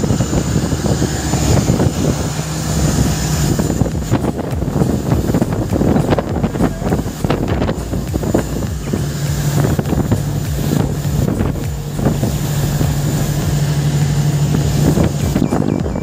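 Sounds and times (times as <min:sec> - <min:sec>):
boat engine hum: 0:00.0 - 0:16.0
water rushing and splashing: 0:00.0 - 0:16.0
wind buffeting microphone: 0:00.0 - 0:16.0.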